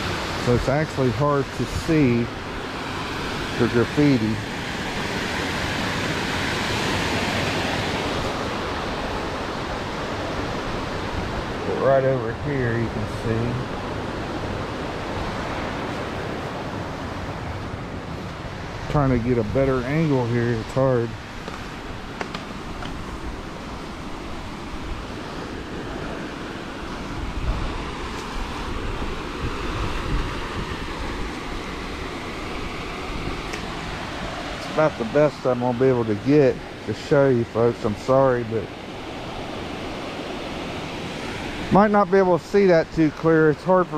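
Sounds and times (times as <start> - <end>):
water rushing over spillway: 0.0 - 43.9
wind buffeting microphone: 0.0 - 43.9.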